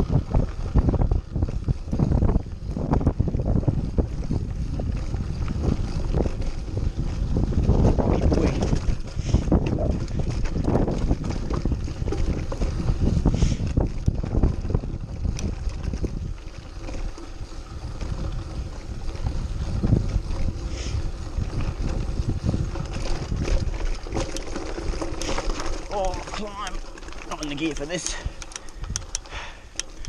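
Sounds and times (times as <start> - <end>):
bike knocks and rattles: 0.0 - 30.0
wind rumbling on microphone: 0.0 - 30.0
tyres crunching over stones: 5.2 - 30.0.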